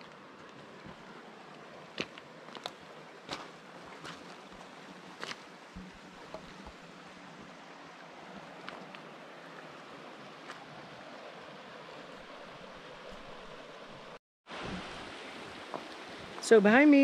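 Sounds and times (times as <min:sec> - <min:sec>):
creek flowing over rocks: 0:00.0 - 0:17.0.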